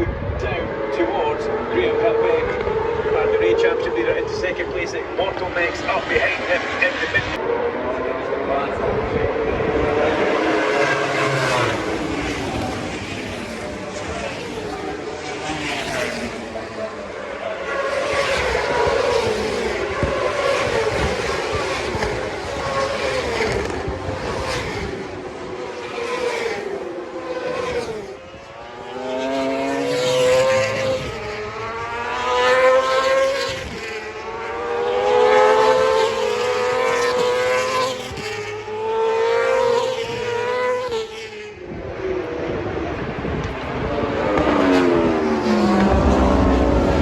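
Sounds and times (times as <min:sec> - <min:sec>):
racing motorcycles at full throttle: 0:00.0 - 0:47.0.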